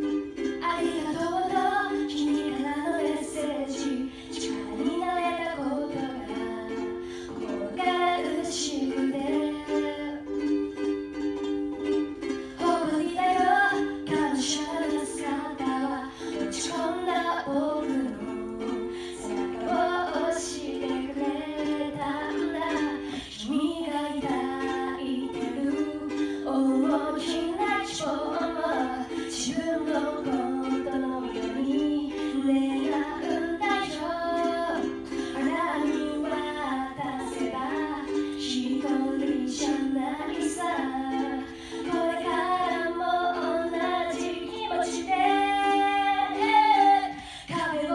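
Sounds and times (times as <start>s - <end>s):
ukulele: 0.0s - 47.9s
woman singing pop song: 0.6s - 10.3s, 12.6s - 47.9s.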